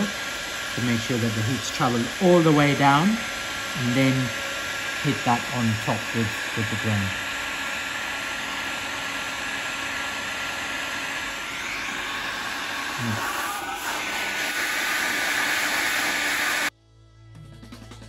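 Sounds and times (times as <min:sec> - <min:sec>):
heat gun blowing hot air: 0:00.0 - 0:16.7.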